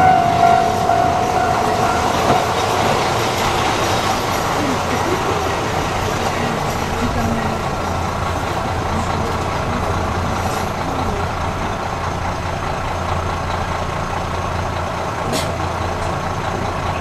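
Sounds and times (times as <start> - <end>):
diesel engine idling: 0.0 - 17.0
train rolling to a stop: 0.0 - 17.0.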